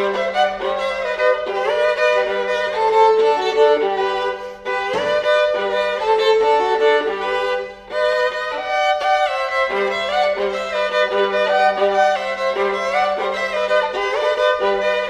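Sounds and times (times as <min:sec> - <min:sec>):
bowed viola melody: 0:00.0 - 0:15.0.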